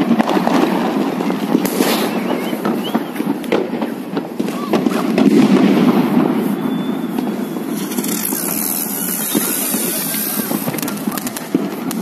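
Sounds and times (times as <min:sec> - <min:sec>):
distant fireworks rumble: 0:00.0 - 0:12.0
fireworks pops and crackles: 0:00.0 - 0:12.0.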